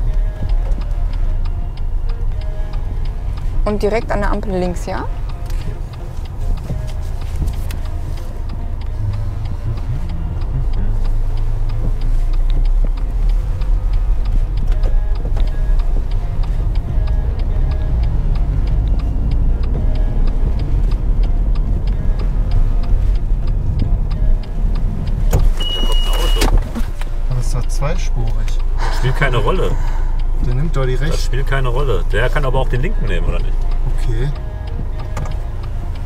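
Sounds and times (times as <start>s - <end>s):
low rumble of engine and tyres: 0.0s - 36.0s
turn signal ticking: 0.0s - 36.0s.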